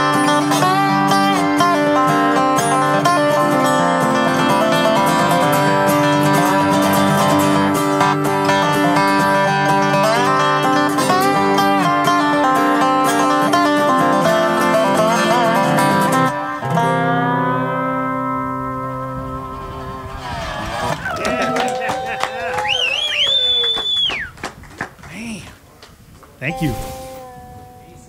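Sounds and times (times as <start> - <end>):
acoustic guitar and dobro: 0.0 - 21.0, 26.4 - 28.0.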